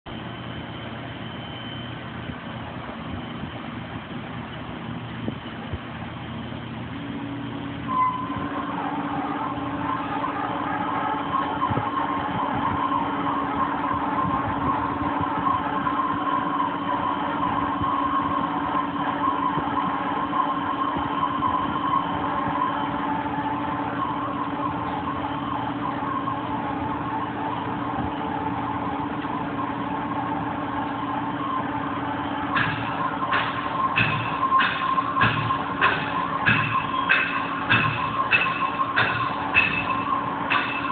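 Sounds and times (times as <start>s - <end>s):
lathe machine hum and whine: 0.1s - 40.9s.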